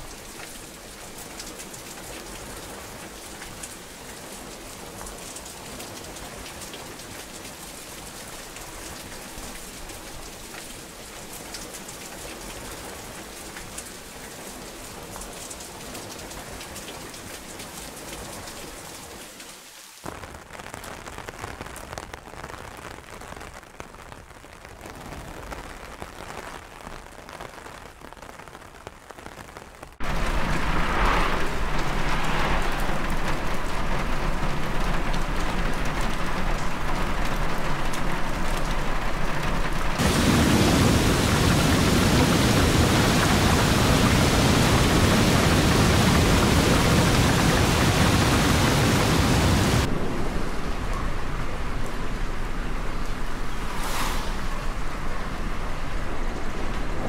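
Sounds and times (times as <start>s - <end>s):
rain pattering: 0.0s - 53.6s, 54.6s - 57.0s.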